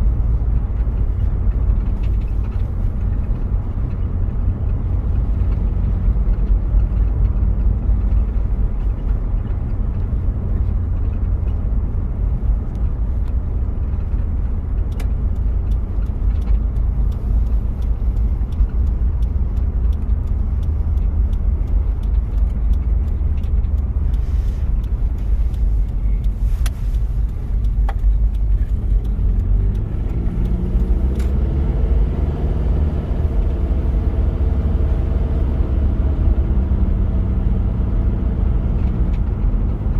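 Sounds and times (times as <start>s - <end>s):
diesel engine and road noise: 0.0s - 39.9s
light clicks and rattles: 0.1s - 34.1s.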